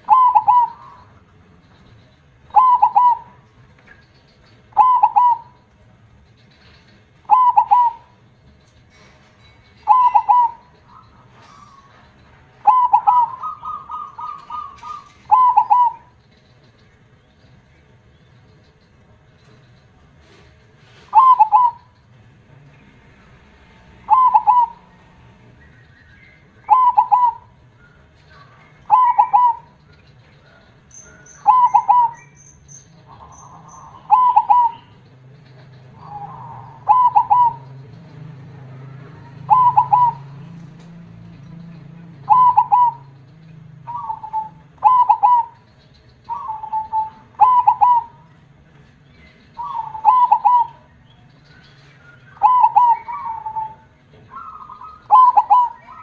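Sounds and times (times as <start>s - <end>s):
dove cooing: 0.0s - 5.9s, 6.8s - 9.2s, 9.8s - 16.7s, 19.4s - 22.3s, 23.1s - 51.0s, 51.6s - 56.0s.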